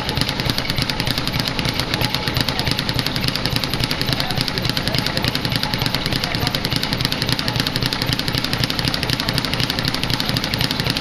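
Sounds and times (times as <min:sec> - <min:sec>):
speed bag drumming: 0:00.0 - 0:11.0.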